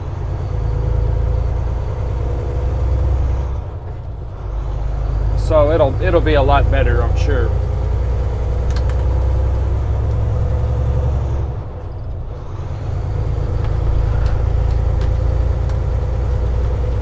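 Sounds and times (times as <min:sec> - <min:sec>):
diesel truck engine droning: 0:00.0 - 0:17.0.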